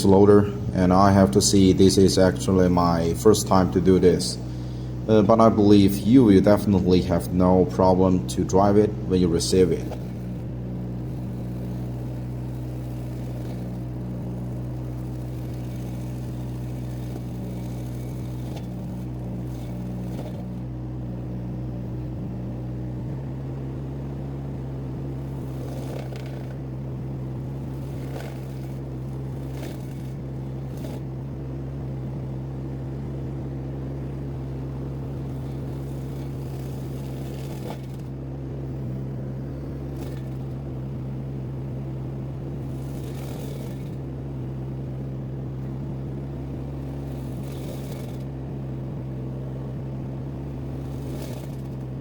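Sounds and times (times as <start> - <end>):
diesel engine running under load: 0.0 - 52.0
mulcher cutting grass: 0.0 - 52.0.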